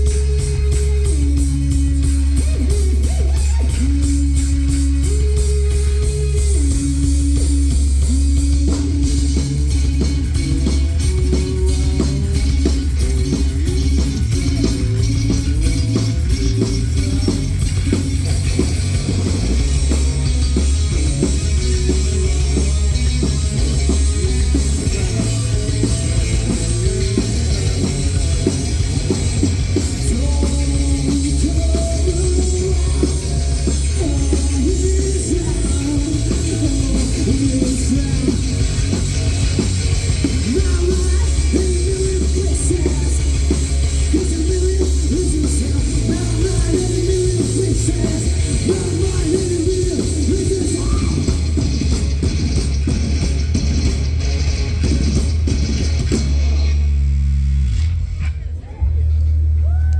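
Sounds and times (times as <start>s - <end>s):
drum kit: 0.0s - 58.5s
bass guitar: 0.0s - 59.9s
electric guitar lines: 0.0s - 59.9s.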